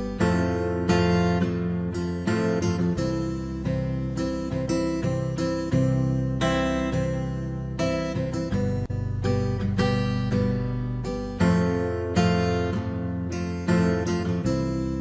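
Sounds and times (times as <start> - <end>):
steady bass: 0.0 - 15.0
strummed acoustic guitar: 0.0 - 15.0.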